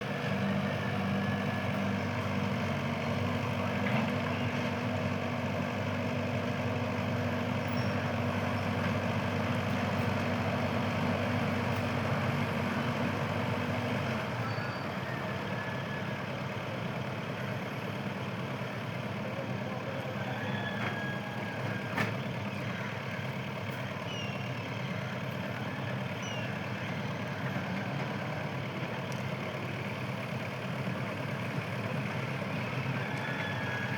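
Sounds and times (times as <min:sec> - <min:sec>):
heavy engine idling: 0:00.0 - 0:33.9.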